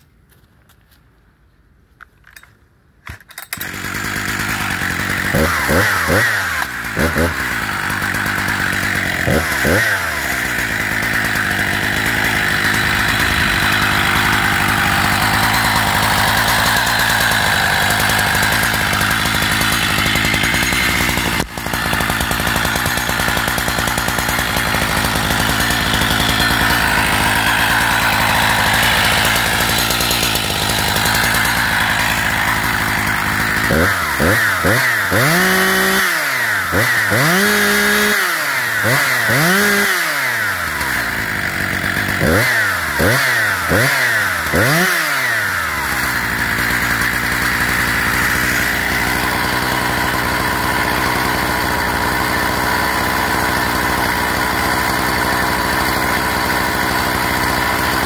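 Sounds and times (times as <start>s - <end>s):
chainsaw revving at full throttle: 3.5s - 58.0s.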